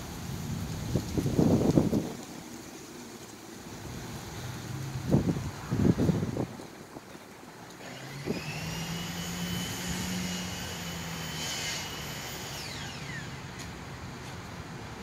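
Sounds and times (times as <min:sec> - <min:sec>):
vehicle passing with hum and whine: 0:02.3 - 0:15.0.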